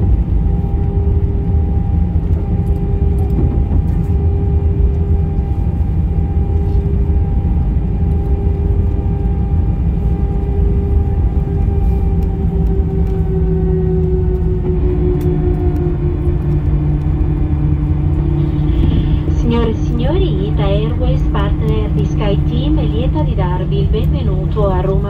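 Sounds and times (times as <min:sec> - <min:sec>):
jet engine whine: 0:00.0 - 0:25.0
wheels and airflow rumble: 0:00.0 - 0:25.0.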